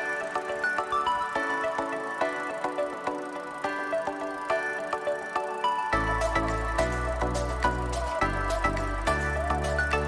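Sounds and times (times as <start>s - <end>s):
rhythmic background music: 0.0s - 10.0s.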